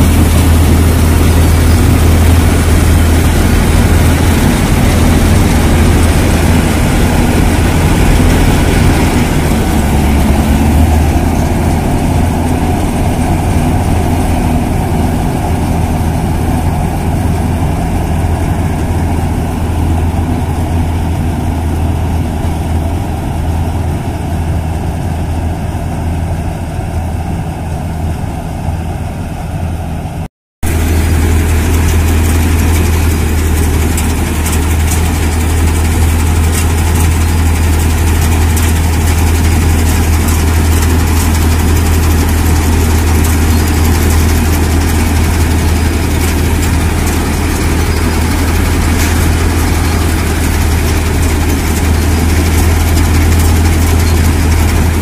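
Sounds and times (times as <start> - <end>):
combine harvester engine hum: 0.0 - 55.0
machinery rattling: 0.0 - 55.0.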